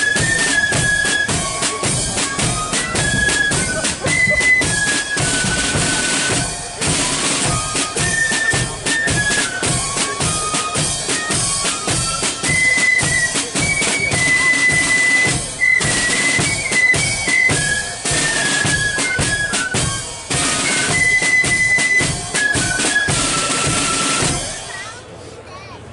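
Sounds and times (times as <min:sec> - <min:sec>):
flutes playing a tune: 0:00.0 - 0:25.0
side drum strokes: 0:00.0 - 0:25.0.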